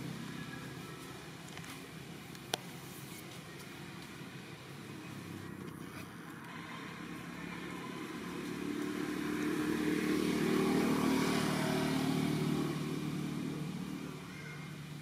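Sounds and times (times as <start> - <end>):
passing motor vehicle engine: 0.0 - 2.0, 3.9 - 15.0.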